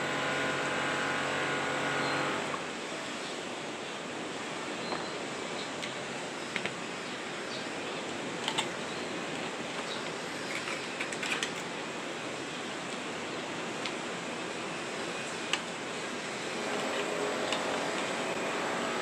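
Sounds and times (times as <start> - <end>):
steady hiss: 2.5 - 19.0.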